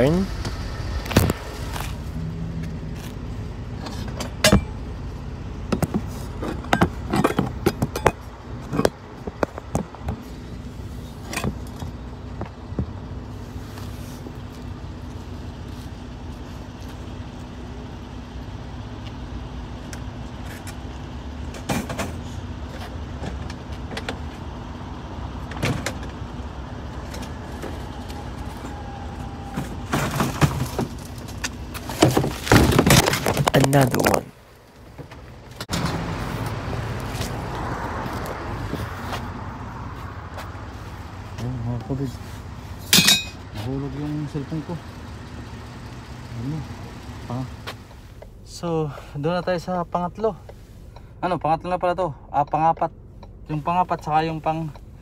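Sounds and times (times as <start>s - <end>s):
van engine idling: 0.0s - 55.0s.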